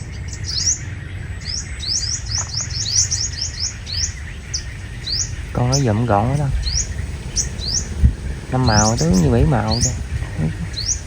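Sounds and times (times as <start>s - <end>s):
birds chirping high: 0.0s - 11.0s
steady low rumble: 0.4s - 11.0s.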